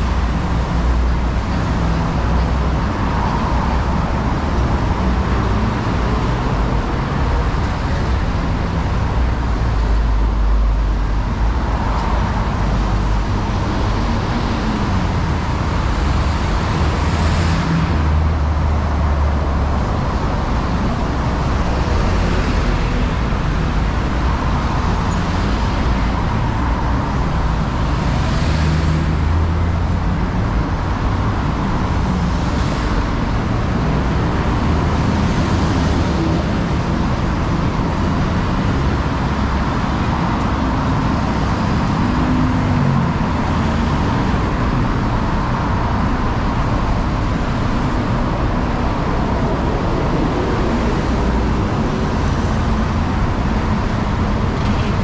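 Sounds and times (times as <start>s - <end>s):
road traffic rumble: 0.0s - 55.0s
vehicles passing: 0.0s - 55.0s.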